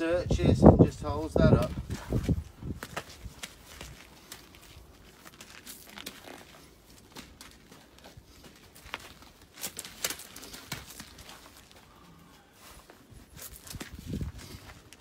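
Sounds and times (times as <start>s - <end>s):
hooves crunching on gravel: 1.3s - 15.0s.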